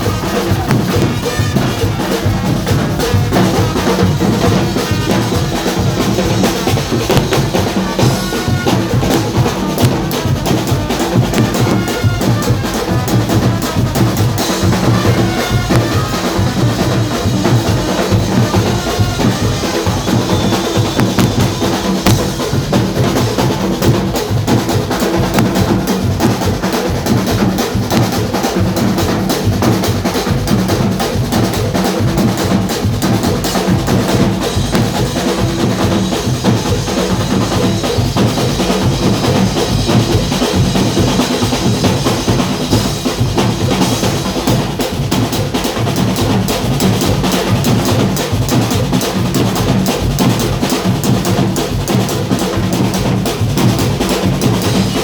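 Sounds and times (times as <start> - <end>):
street drum band playing: 0.0 - 55.0.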